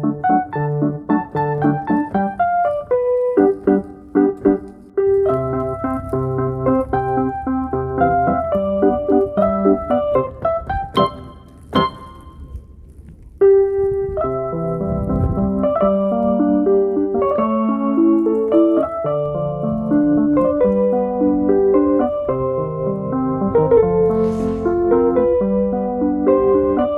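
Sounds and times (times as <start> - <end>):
electronic keyboard piano: 0.0 - 26.9.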